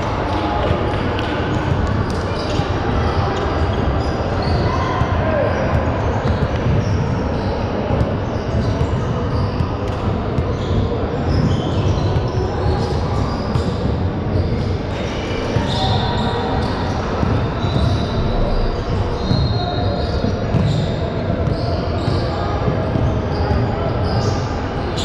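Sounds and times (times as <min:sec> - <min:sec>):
basketball bouncing on court: 0:00.3 - 0:14.6, 0:16.7 - 0:18.2, 0:18.9 - 0:24.4
sneaker squeaks: 0:00.3 - 0:25.0.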